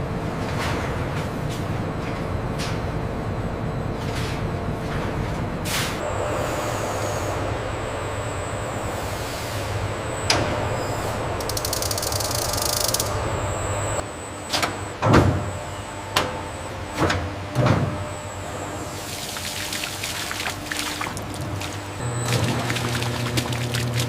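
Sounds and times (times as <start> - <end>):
machinery hum: 0.0 - 24.0.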